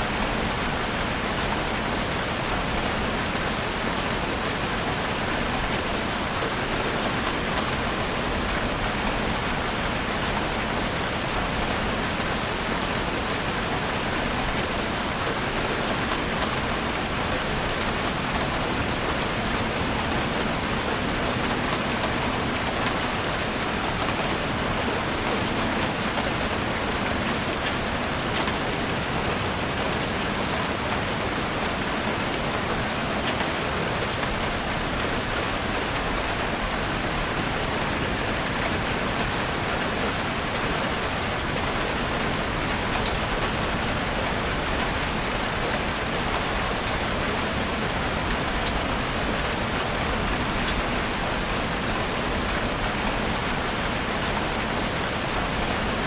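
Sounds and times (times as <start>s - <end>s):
heavy rain on roof: 0.0s - 56.0s.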